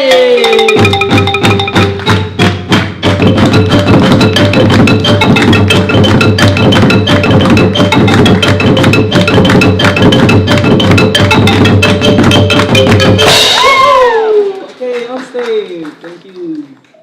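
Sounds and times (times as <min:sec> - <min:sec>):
mallet-struck pitched notes: 0:00.0 - 0:14.0.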